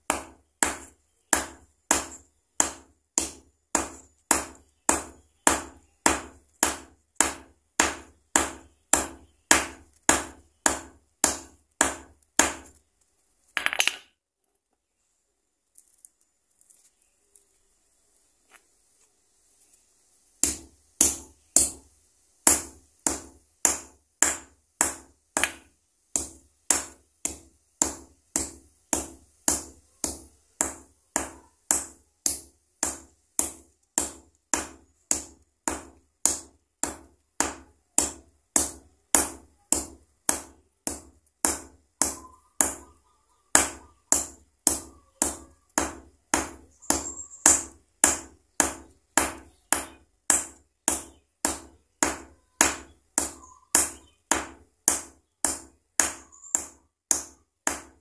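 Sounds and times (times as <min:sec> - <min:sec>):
hammer pounding on steel block: 0:00.1 - 0:12.7, 0:20.4 - 0:21.8, 0:22.5 - 0:42.9, 0:43.5 - 0:58.0.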